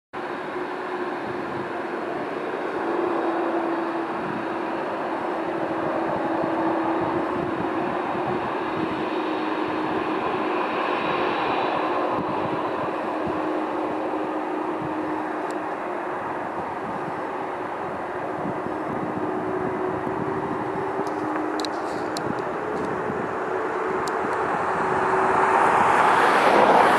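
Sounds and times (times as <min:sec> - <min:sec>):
jet engines roaring and whining: 0:00.2 - 0:26.9.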